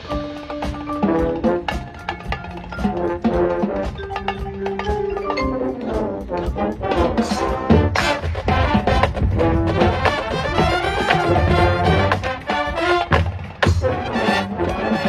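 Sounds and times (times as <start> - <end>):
brass holding chords: 0.0 - 4.4, 5.1 - 15.0
full ensemble hit: 0.0 - 15.0
marimbas: 0.0 - 15.0
percussion: 0.0 - 15.0.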